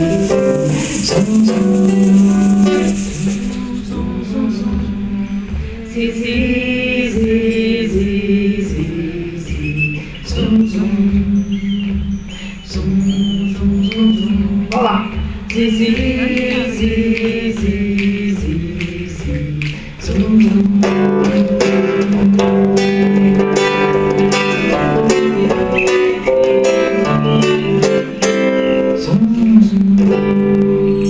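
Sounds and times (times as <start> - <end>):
acoustic guitar: 0.0 - 31.0
man singing: 0.0 - 31.0.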